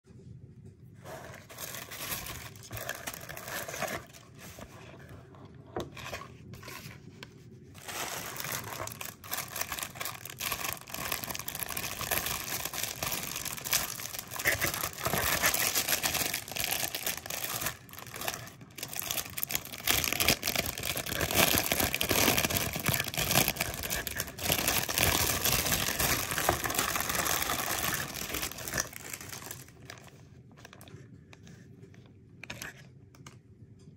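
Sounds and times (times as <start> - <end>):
plastic packaging crinkling: 1.0 - 5.1, 7.7 - 31.0.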